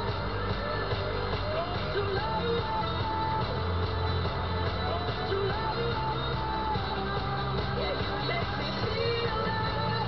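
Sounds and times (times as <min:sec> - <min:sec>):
rock music on car radio: 0:00.0 - 0:10.0.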